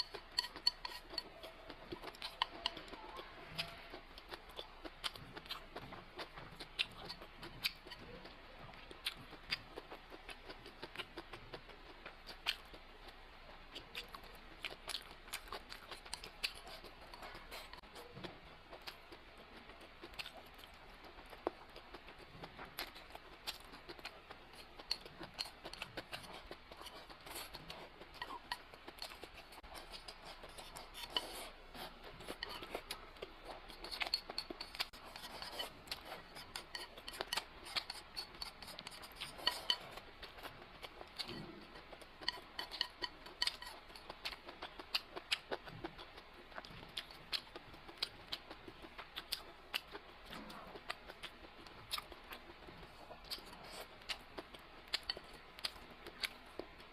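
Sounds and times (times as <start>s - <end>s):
chewing and crunching: 0.0s - 56.9s.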